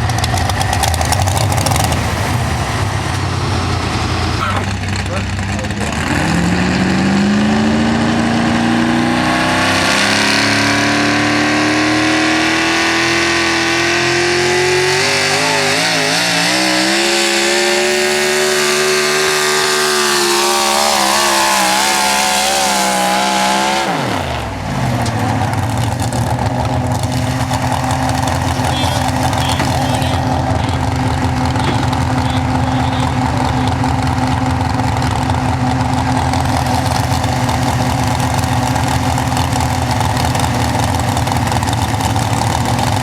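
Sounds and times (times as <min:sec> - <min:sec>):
truck engine revving hard: 0:00.0 - 0:43.0.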